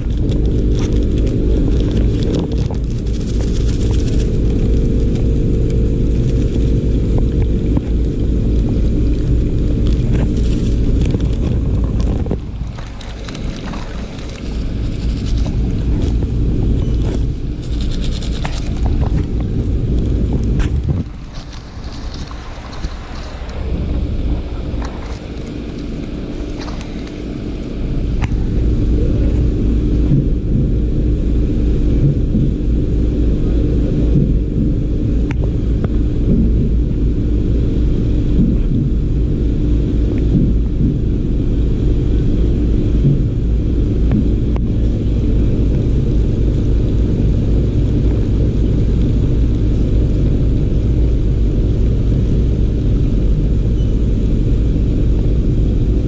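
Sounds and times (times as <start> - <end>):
low mechanical rumble: 0.0 - 56.0.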